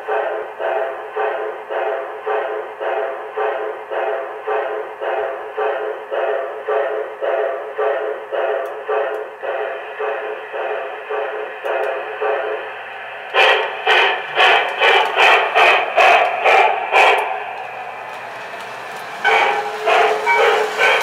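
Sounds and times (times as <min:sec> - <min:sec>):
steam chuffing from small speaker: 0:00.0 - 0:21.0.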